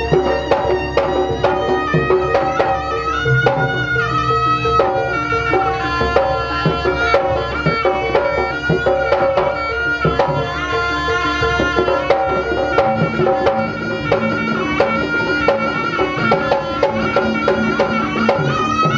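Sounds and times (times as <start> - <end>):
hand drum strikes: 0.0 - 18.9
held many-overtoned melody: 0.0 - 18.9.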